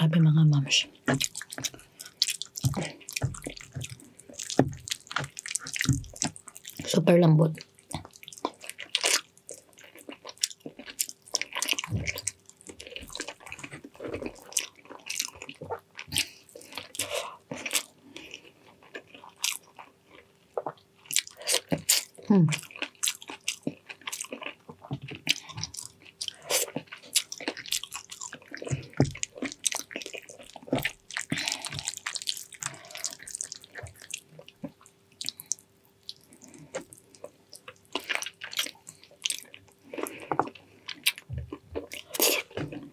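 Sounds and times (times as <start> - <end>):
biting and chewing: 1.0 - 6.9, 7.6 - 42.9.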